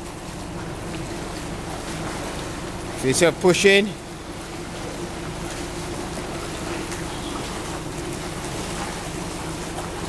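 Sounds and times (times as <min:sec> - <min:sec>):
steady low hum: 0:00.0 - 0:10.0
water splashing and sloshing: 0:00.0 - 0:10.0.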